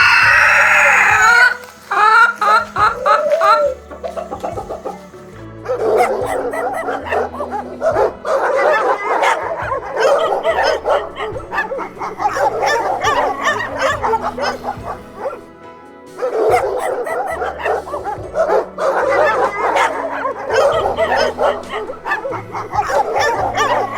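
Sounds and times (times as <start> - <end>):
background music with bass: 0.0 - 23.9
dogs yipping and whimpering: 0.0 - 23.9.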